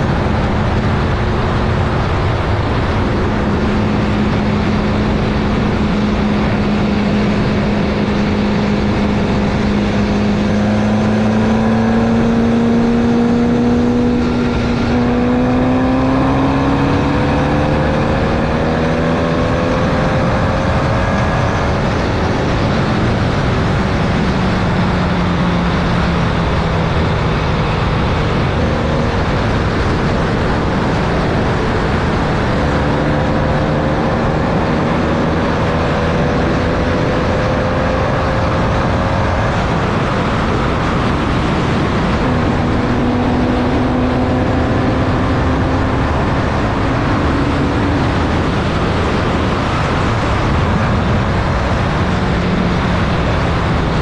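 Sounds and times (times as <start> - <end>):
race car engine running hard: 0.0 - 54.0
wind and road rush: 0.0 - 54.0.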